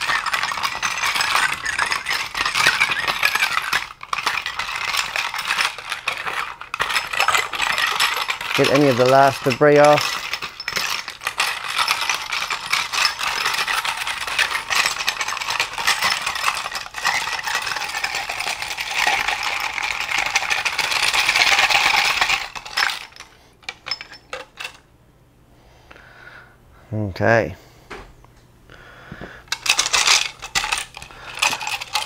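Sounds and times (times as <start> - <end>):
metal parts clinking and rattling: 0.0 - 24.8, 29.5 - 32.0.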